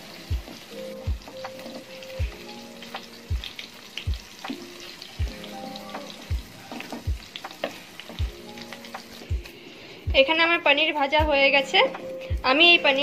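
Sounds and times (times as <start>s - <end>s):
background music with deep beat: 0.0s - 10.4s, 11.2s - 13.0s
frying sizzle: 0.0s - 13.0s.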